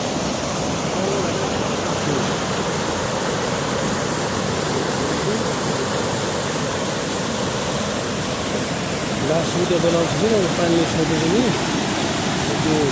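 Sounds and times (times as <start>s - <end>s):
rush of fast-flowing water: 0.0s - 12.9s.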